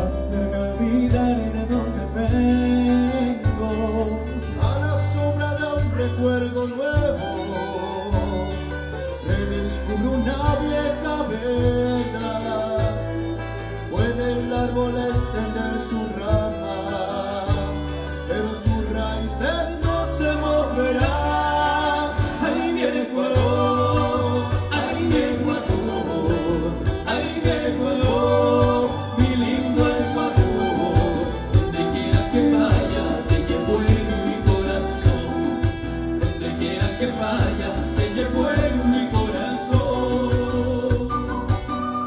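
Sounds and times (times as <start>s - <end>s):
low drum beat: 0.0s - 13.2s, 18.6s - 41.9s
acoustic guitar: 0.0s - 42.0s
keyboard: 0.0s - 42.0s
man singing: 0.0s - 42.0s
violins: 4.3s - 42.0s.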